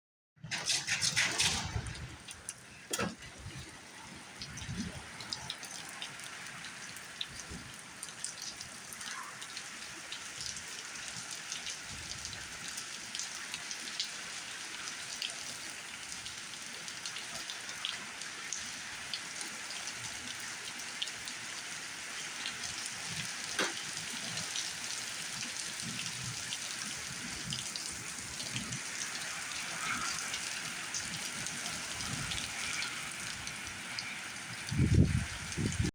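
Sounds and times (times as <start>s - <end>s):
rain falling: 0.5s - 35.9s.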